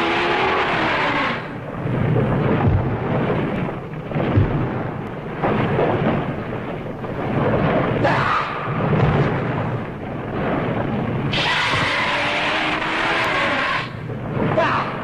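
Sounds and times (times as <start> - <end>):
rumbling thunder-like effect: 0.0 - 15.0.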